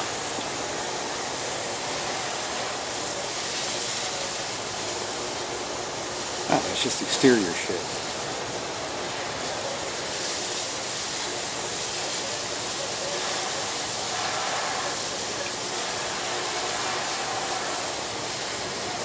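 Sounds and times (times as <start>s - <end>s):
fire hose spraying water: 0.0s - 19.0s.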